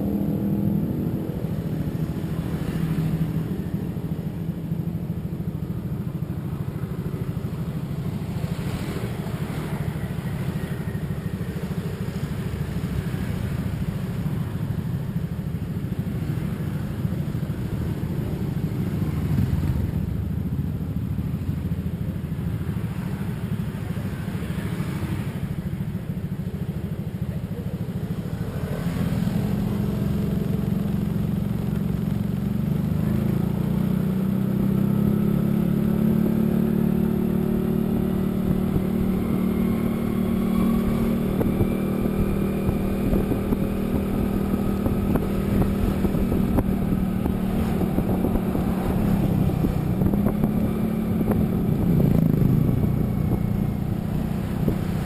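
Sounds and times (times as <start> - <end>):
road rumble: 0.0 - 55.0
vehicle engine running: 0.0 - 55.0.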